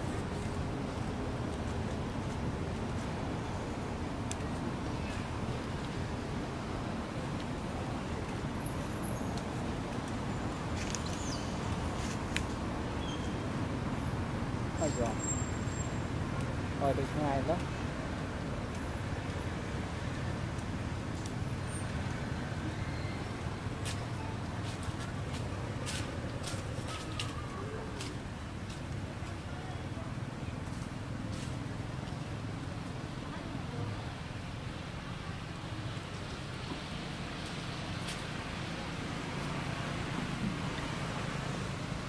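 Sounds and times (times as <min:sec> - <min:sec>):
low rumbling background noise: 0:00.0 - 0:42.0.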